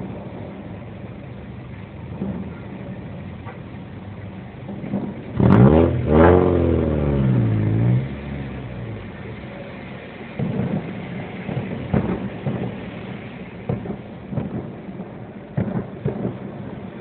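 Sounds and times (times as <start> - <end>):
distant fireworks booming: 0.0 - 17.0.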